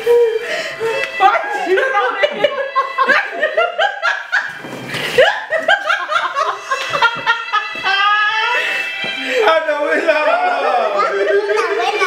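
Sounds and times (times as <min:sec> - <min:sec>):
people laughing: 0:01.4 - 0:12.0.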